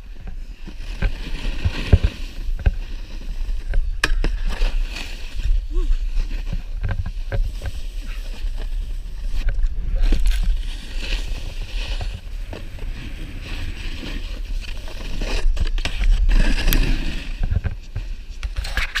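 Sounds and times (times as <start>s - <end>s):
snowboard scraping over snow: 0.0s - 19.0s.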